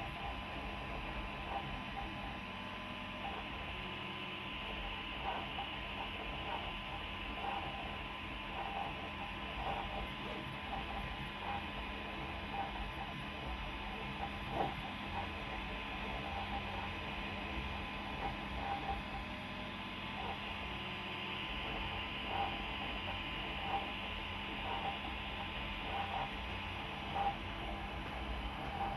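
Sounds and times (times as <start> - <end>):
cooling fans humming: 0.0 - 28.9.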